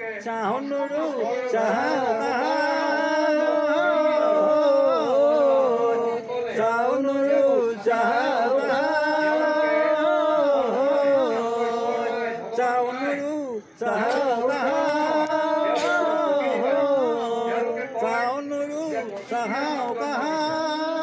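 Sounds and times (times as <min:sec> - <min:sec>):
person singing chant-like melody: 0:00.0 - 0:21.0.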